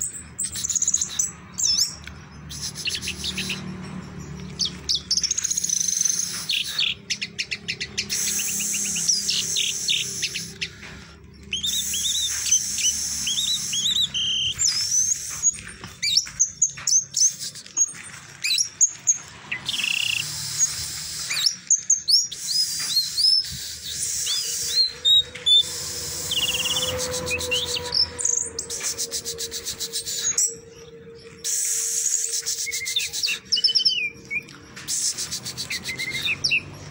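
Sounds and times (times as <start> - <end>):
thrush singing whistled notes: 0.0 - 36.9.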